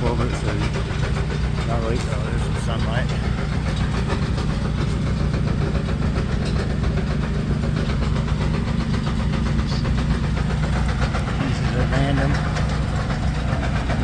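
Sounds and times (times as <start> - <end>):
machinery low drone: 0.0 - 14.0.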